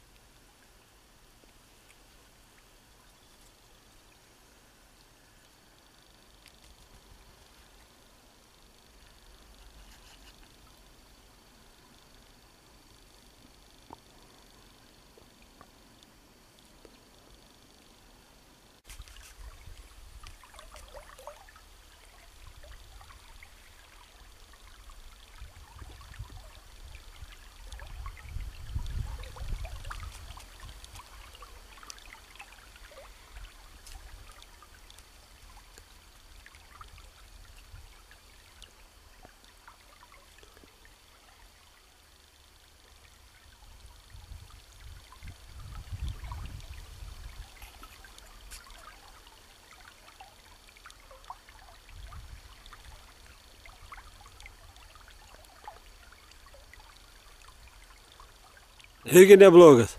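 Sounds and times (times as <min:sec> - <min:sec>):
river water trickling and splashing: 0:00.0 - 0:59.9.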